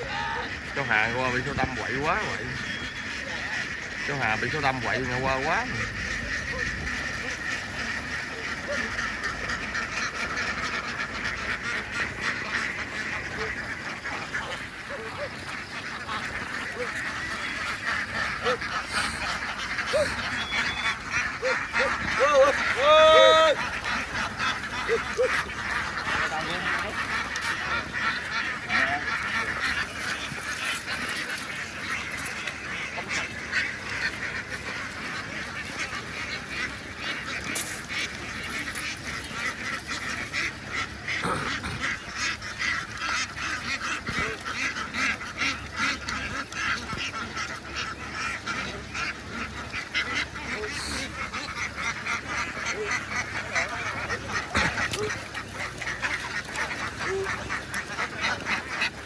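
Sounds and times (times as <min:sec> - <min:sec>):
flock of ducks quacking: 0:00.0 - 0:59.0.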